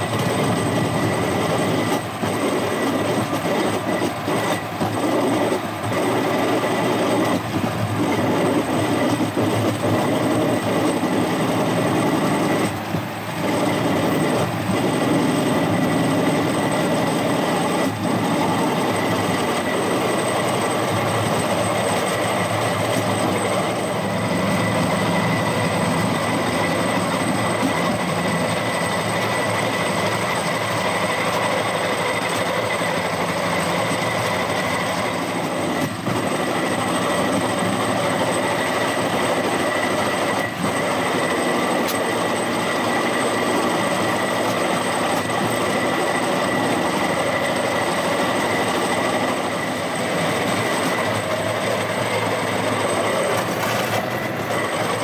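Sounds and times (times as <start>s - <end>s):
high-pitched whine: 0.0s - 55.0s
steel wheels rolling on track: 0.0s - 55.0s.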